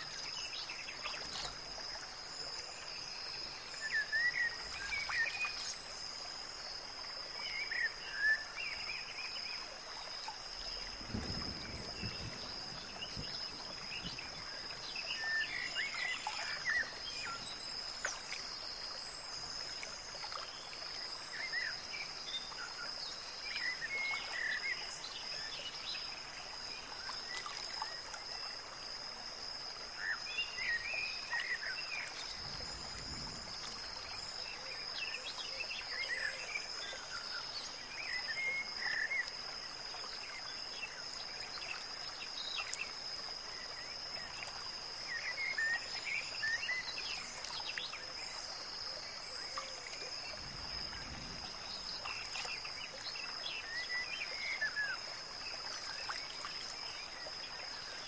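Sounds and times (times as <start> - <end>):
faint hiss: 0.0 - 58.0.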